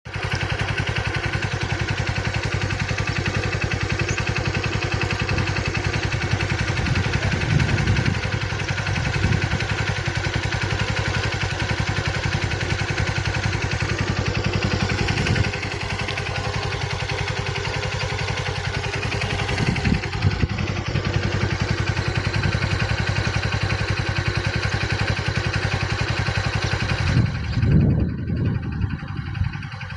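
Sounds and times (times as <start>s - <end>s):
engine running with fast pulse: 0.1s - 29.9s.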